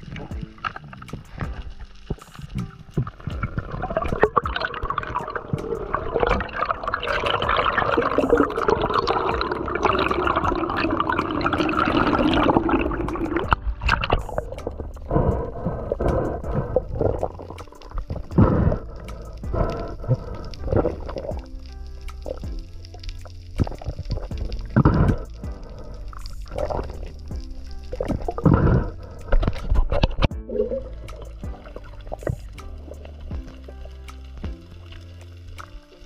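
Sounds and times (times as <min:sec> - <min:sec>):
air bubbles gurgling underwater: 0:00.0 - 0:35.0.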